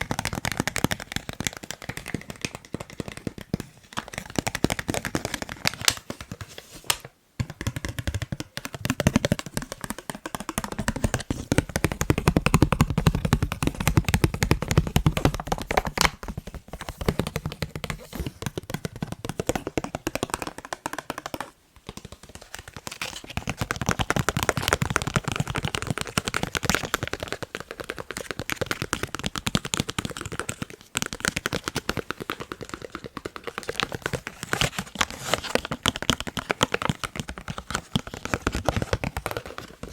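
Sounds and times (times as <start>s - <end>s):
fast tapping on a face mask: 0.0s - 39.9s.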